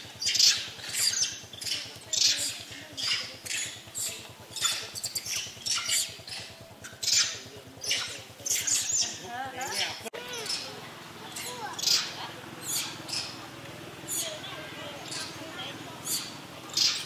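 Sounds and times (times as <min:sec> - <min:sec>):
monkeys giving harsh alarm calls: 0:00.0 - 0:17.0.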